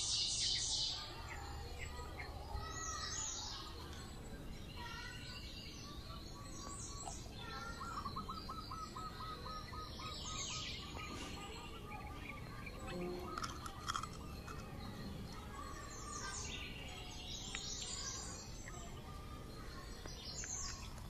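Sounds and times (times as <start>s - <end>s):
high bird chirps: 0.0s - 21.0s
steady background noise: 0.0s - 21.0s.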